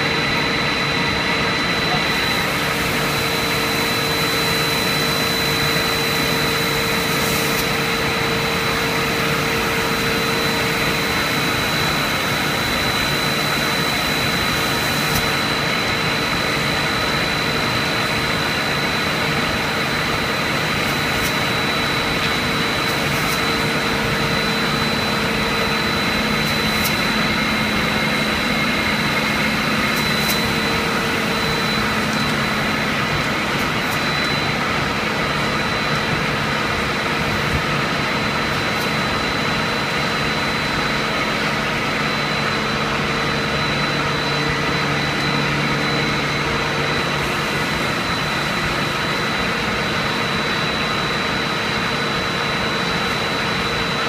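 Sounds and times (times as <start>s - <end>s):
machinery drone with whine: 0.0s - 54.0s.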